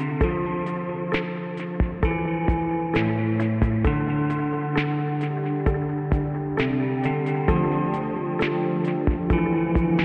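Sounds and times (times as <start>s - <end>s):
ambient background music: 0.0s - 10.0s.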